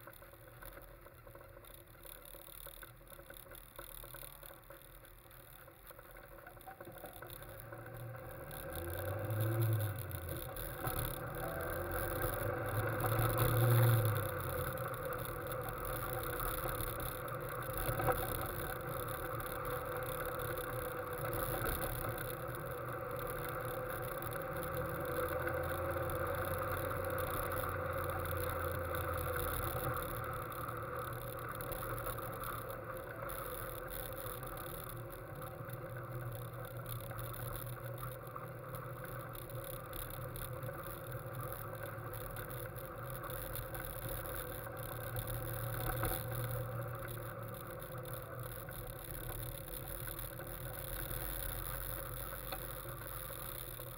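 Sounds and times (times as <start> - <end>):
sports car engine running: 0.0 - 53.9
wind and road noise: 0.0 - 53.9.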